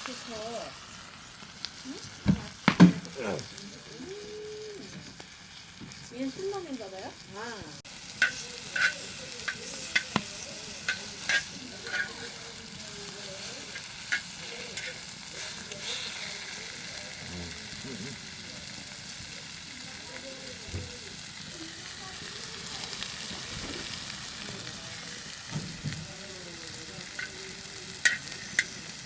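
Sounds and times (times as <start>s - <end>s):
meat sizzling with frying hiss: 0.0s - 29.0s.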